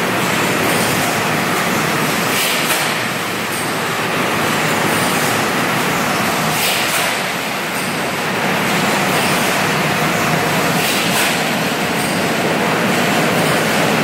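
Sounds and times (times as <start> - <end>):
washing machine mechanical din: 0.0 - 14.0.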